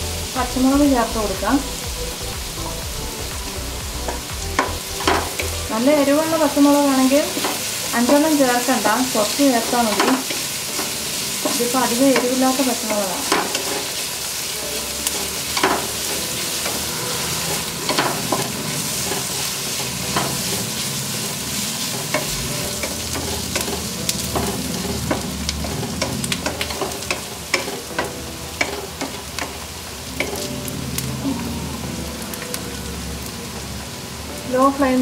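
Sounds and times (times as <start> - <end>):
onions sizzling in oil: 0.0 - 35.0.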